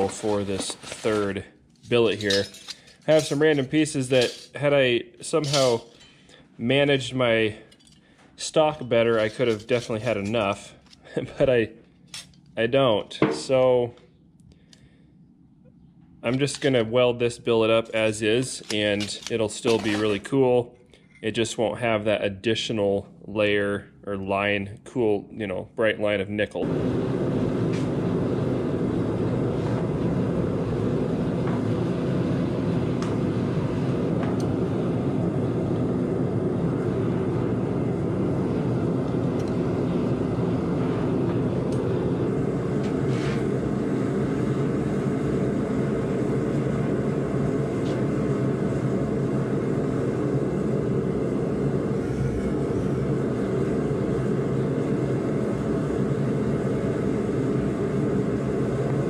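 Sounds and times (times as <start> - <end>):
gas forge burning drone: 0.0 - 59.0.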